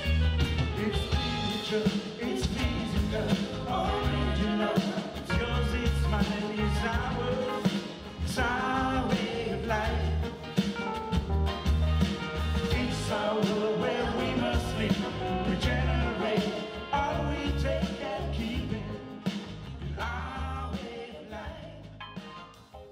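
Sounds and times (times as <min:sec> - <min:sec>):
song with singing: 0:00.0 - 0:11.0, 0:12.2 - 0:22.0
pulsing bass line: 0:00.0 - 0:20.8
drums: 0:00.0 - 0:22.9.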